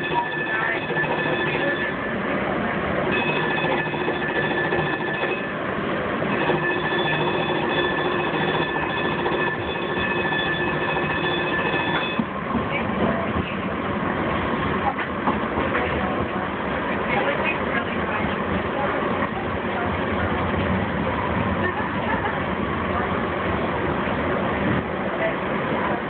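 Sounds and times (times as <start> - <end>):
light-rail rumbling: 0.0 - 26.0.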